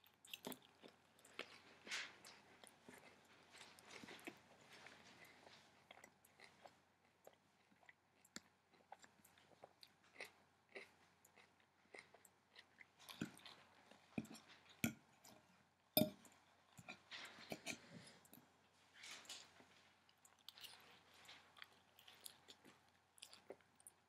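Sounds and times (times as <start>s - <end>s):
person chewing crunchy salad: 0.0s - 18.4s, 20.1s - 24.0s.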